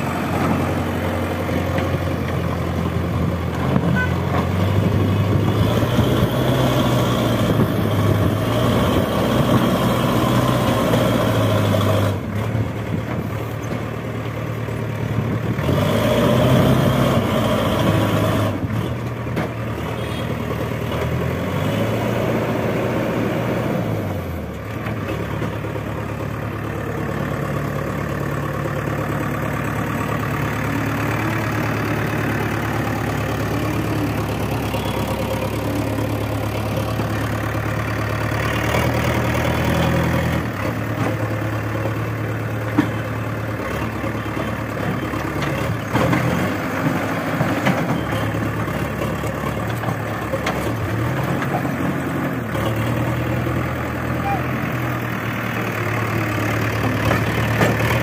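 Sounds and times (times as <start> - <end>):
diesel engine under hydraulic load: 0.0 - 58.0.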